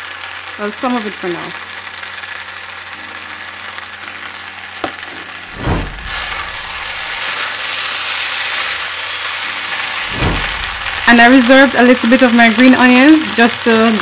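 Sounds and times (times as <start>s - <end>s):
fried rice sizzling in a pan: 0.0s - 14.0s.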